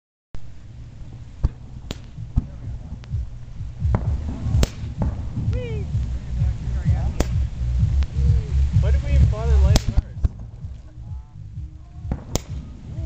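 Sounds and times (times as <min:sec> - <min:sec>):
distant fireworks bangs: 0:00.4 - 0:13.0
steady low rumble: 0:00.4 - 0:13.0.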